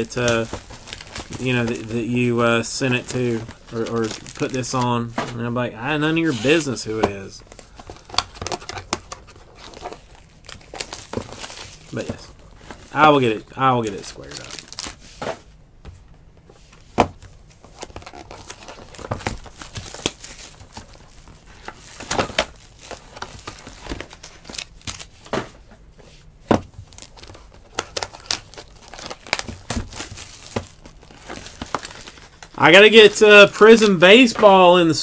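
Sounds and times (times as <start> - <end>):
card pack wrappers crinkling: 0.0 - 5.1, 6.0 - 15.1, 17.2 - 25.4, 26.7 - 35.0.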